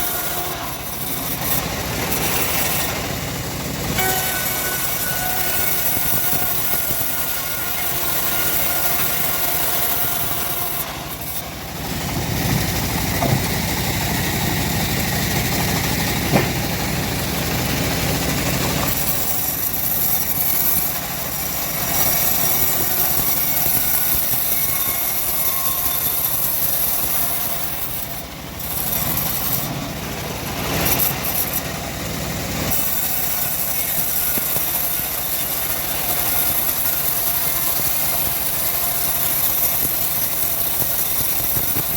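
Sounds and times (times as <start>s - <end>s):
bandsaw mill engine sawing timber: 0.0s - 41.9s.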